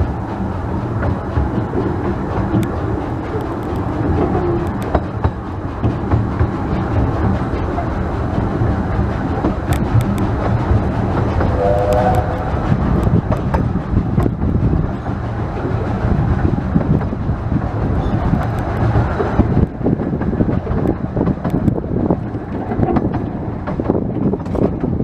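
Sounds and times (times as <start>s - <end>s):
steam train running past: 0.0s - 25.0s
wheels clattering over rail joints: 0.0s - 25.0s
wind buffeting microphone: 0.0s - 25.0s.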